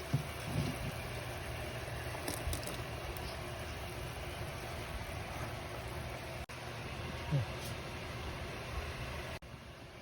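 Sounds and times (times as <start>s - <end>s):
pot boiling with hiss: 0.0s - 10.0s.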